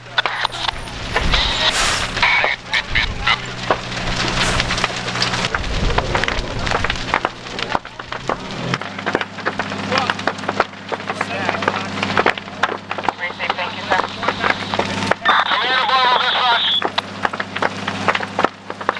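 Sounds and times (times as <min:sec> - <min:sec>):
fire crackling and popping: 0:00.0 - 0:18.9.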